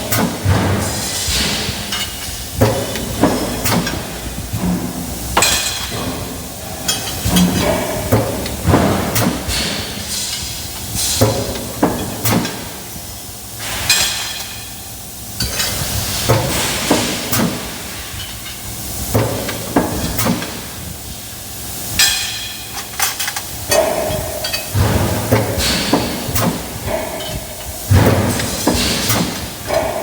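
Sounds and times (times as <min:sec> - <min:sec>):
machine knocking: 0:00.0 - 0:13.0, 0:15.4 - 0:21.1, 0:22.0 - 0:30.0.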